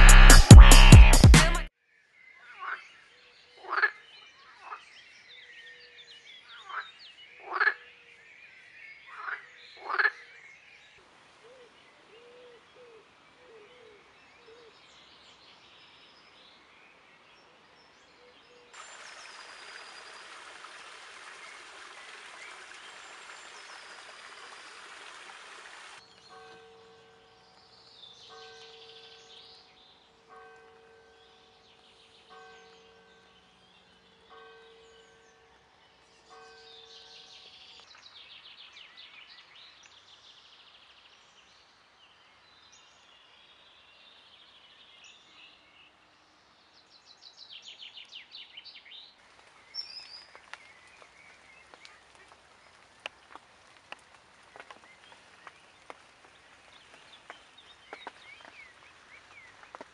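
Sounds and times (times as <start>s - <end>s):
birds chirping and trilling: 1.9s - 45.8s, 54.6s - 59.9s.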